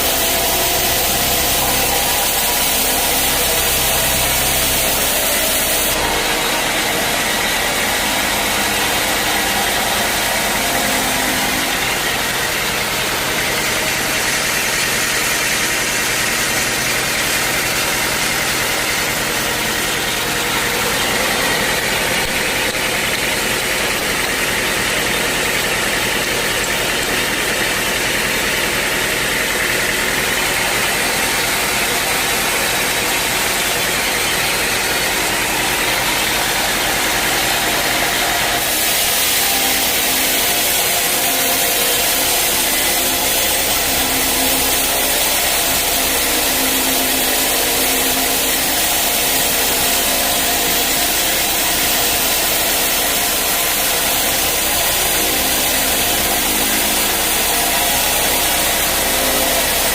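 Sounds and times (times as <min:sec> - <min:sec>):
sawmill running: 0:00.0 - 0:59.9.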